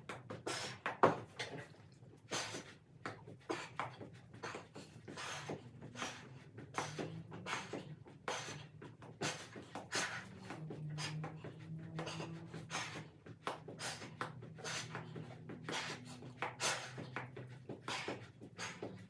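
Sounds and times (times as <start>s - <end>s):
rushes of breath: 3.5s - 19.0s.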